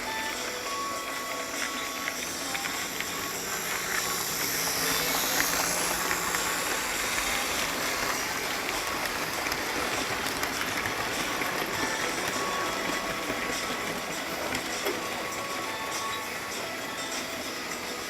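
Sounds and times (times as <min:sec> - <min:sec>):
model train motor whirr: 0:00.0 - 0:18.0
model train wheels rumbling: 0:00.0 - 0:18.0.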